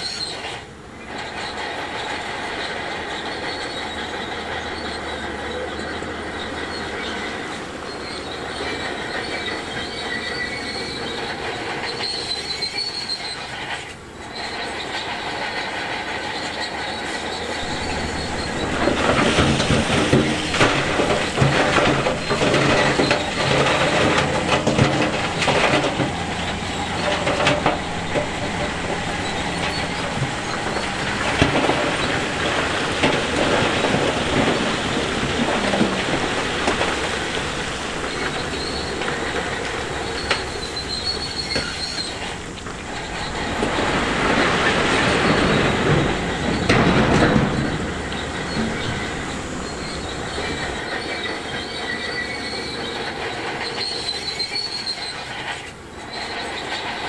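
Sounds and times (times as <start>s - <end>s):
bulldozer engine working: 0.0s - 57.0s
steel tracks squealing and clanking: 0.0s - 57.0s.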